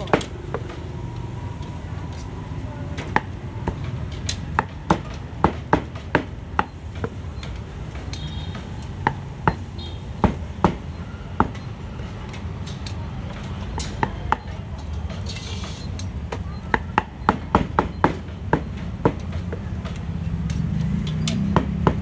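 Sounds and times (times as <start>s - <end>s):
market background rumble: 0.0s - 22.0s.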